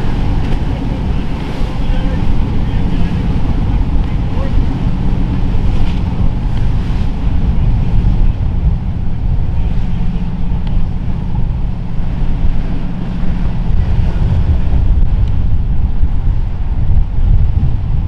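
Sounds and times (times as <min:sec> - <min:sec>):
boat engines droning: 0:00.0 - 0:18.0
wash of waves: 0:00.0 - 0:18.0
wind buffeting microphone: 0:00.0 - 0:18.0.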